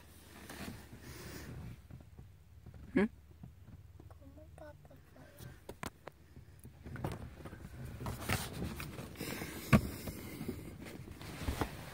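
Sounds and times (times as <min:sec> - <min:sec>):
rustling and rumbling: 0:00.0 - 0:11.9.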